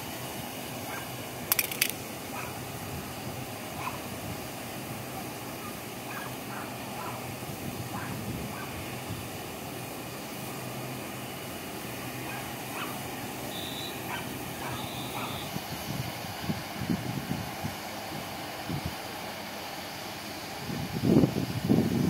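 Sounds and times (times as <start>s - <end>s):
steam locomotive rush of steam: 0.0s - 22.0s.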